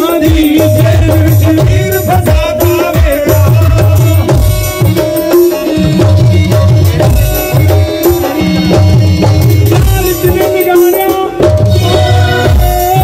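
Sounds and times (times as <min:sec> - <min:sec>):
fast drum rhythm: 0:00.0 - 0:13.0
held melody line: 0:00.0 - 0:13.0.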